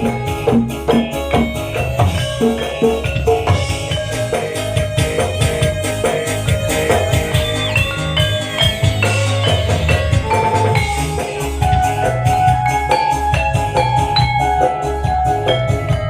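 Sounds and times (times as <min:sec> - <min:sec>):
loud music with pounding bass: 0:00.0 - 0:16.0
mallet percussion melody: 0:00.0 - 0:16.0.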